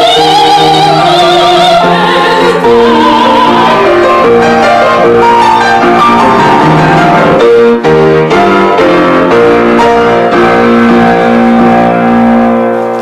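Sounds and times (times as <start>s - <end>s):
piano playing held chords: 0.0s - 13.0s.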